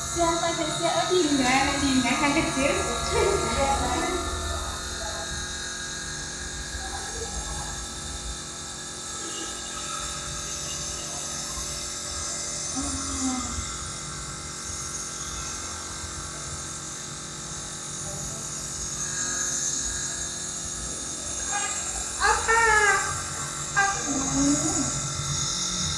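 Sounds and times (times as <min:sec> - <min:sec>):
nebulizer compressor buzzing: 0:00.0 - 0:25.9.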